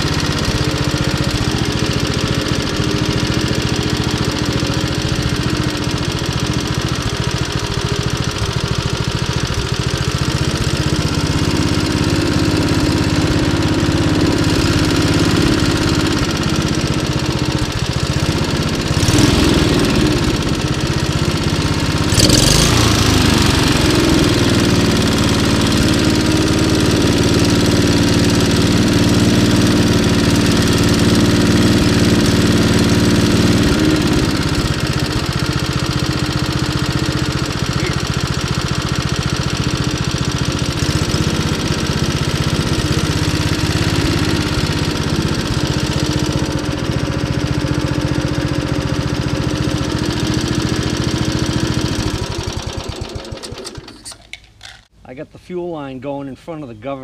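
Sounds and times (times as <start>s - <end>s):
lawn mower engine running: 0.0s - 55.1s.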